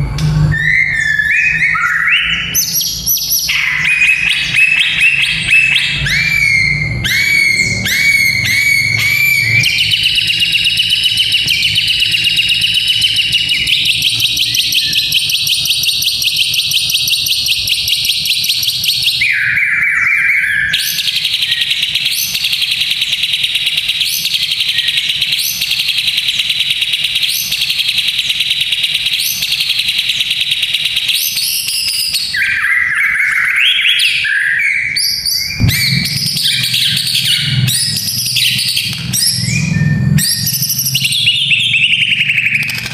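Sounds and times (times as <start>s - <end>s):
bird singing: 0.0s - 42.9s.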